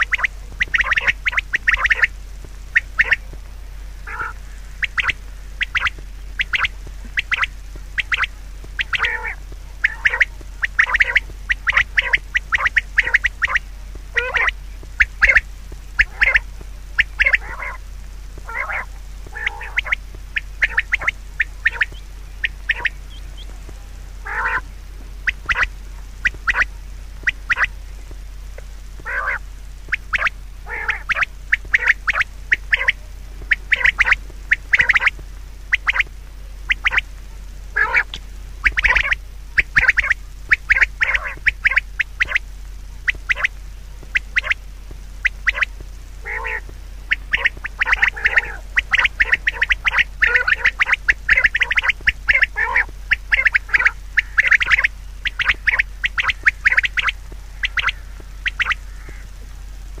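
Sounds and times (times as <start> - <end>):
animal calls: 0.0 - 27.8, 28.5 - 37.1, 37.7 - 59.4
steady low hum: 0.0 - 60.0.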